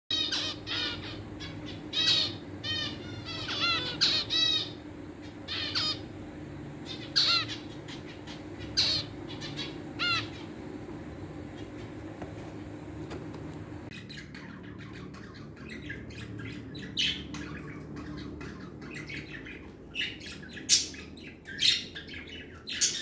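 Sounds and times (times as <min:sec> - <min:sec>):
birds giving downward calls: 0:00.1 - 0:12.9, 0:13.7 - 0:23.0
steady low hum: 0:00.1 - 0:23.0.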